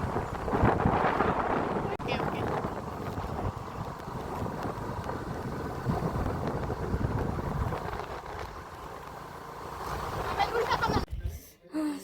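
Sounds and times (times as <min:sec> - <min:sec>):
wind buffeting microphone: 0:00.0 - 0:09.2, 0:10.0 - 0:11.4.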